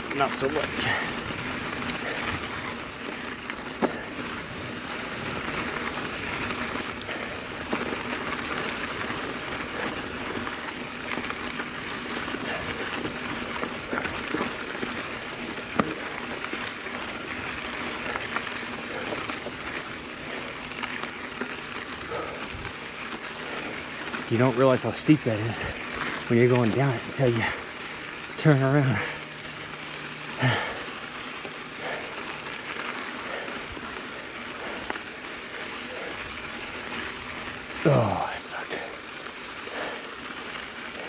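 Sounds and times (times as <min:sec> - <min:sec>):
bike tyres crunching on gravel: 0:00.0 - 0:41.0
stones and bike clicking: 0:00.0 - 0:41.0.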